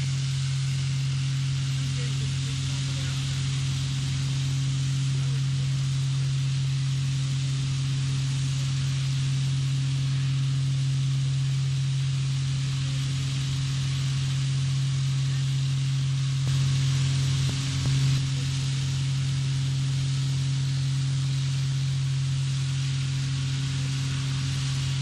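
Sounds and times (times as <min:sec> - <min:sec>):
water-jetting equipment droning: 0:00.0 - 0:25.0.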